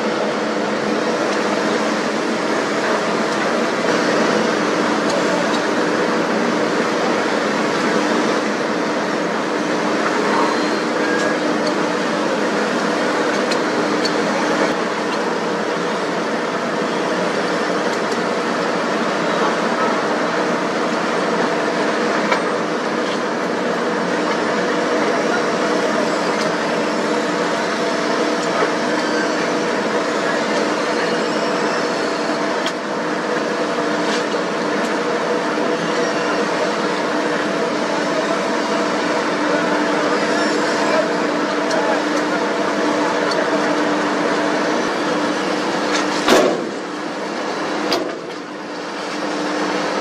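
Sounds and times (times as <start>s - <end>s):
heavy diesel engines droning: 0.0s - 50.0s.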